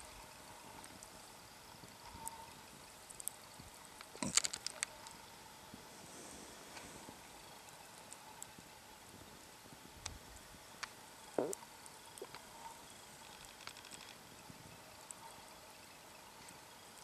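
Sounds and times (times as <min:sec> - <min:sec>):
campfire embers crackling: 0:00.3 - 0:15.2.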